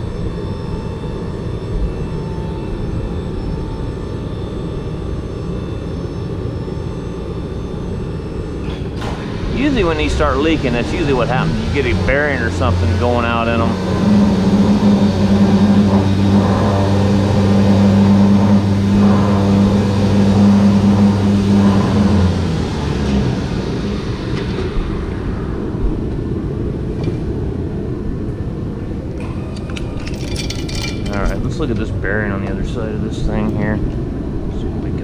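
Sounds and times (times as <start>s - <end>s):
motor humming: 0.0s - 35.0s
steady noisy background: 0.0s - 35.0s.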